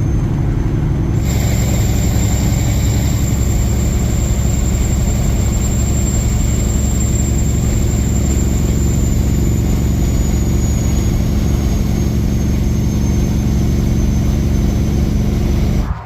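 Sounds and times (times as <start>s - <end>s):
faint high whine: 0.0s - 16.0s
truck diesel engine drone: 0.0s - 16.0s.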